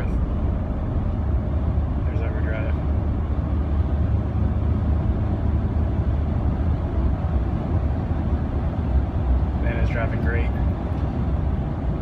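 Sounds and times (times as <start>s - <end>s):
pickup truck engine drone: 0.0s - 12.0s
road noise: 0.0s - 12.0s.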